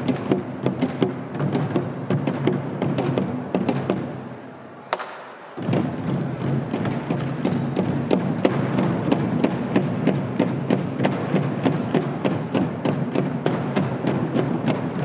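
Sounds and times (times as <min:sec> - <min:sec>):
drums beaten with sticks: 0:00.0 - 0:04.5, 0:05.6 - 0:15.0.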